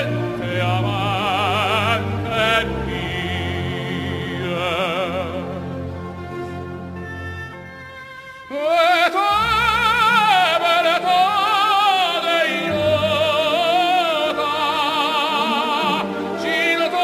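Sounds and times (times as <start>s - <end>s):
person singing with vibrato: 0.0s - 5.7s, 8.4s - 17.0s
low musical accompaniment: 0.0s - 17.0s.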